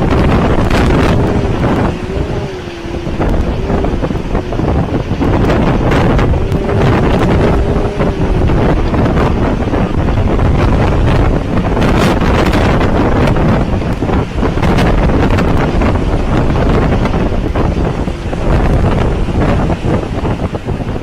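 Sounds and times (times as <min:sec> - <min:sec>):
strong wind blasting microphone: 0:00.0 - 0:21.0.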